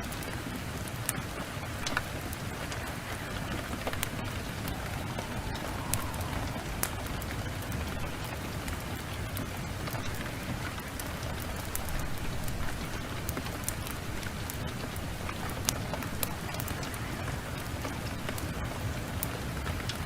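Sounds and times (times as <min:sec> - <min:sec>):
heavy rain pouring: 0:00.0 - 0:20.0
wood fire crackling and popping: 0:00.0 - 0:20.0.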